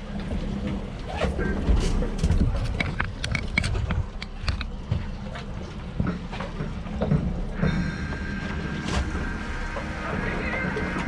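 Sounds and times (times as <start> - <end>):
boat rumble: 0.0 - 11.0
low wind: 0.0 - 11.0.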